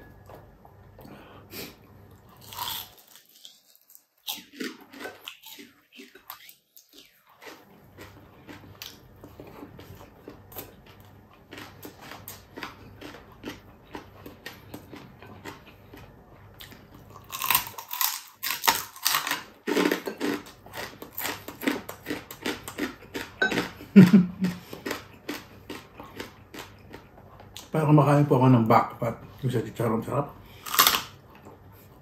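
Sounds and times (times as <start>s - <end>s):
crunching and chewing: 2.1s - 27.7s, 30.5s - 32.0s.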